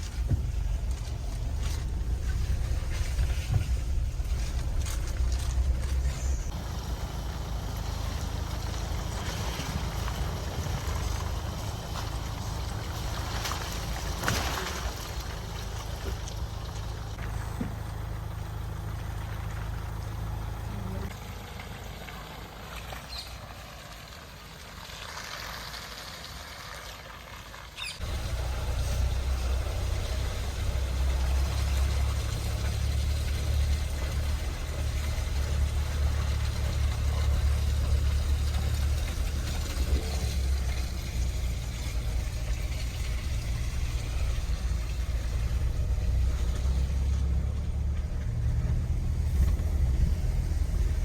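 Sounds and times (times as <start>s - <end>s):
engine low rumble: 0.0s - 51.0s
outdoor ambience: 0.0s - 51.0s.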